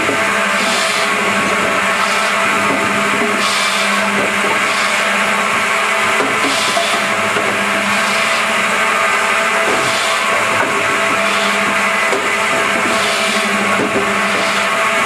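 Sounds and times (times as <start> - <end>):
circular saw blades whining: 0.0 - 15.0
hiss of sawing logs: 0.0 - 15.0.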